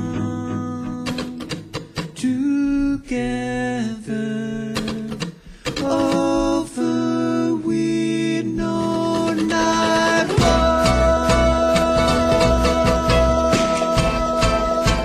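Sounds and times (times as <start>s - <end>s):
acoustic string band with singing: 0.0s - 15.0s.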